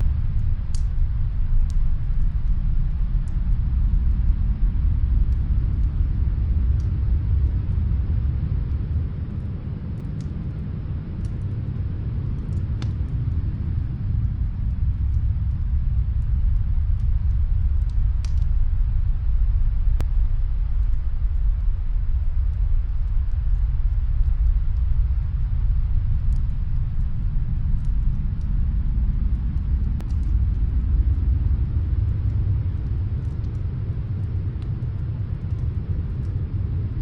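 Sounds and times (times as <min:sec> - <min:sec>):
fireplace crackles: 0:00.0 - 0:37.0
low rumbling wind: 0:00.0 - 0:37.0.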